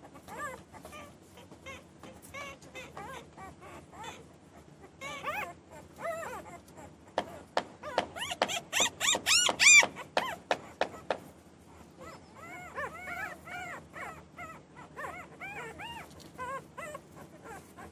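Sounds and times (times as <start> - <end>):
puppies crying and whining: 0.0 - 17.9.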